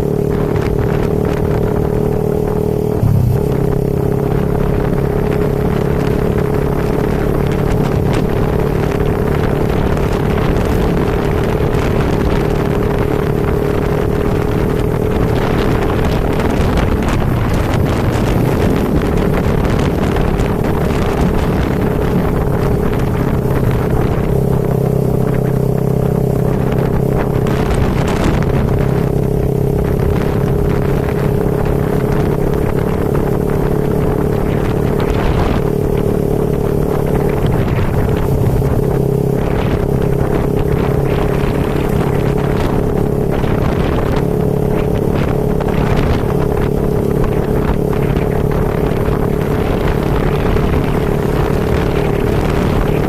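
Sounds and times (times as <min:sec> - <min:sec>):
vehicle engine running steadily: 0:00.0 - 0:53.0
wind rushing over microphone: 0:00.0 - 0:53.0.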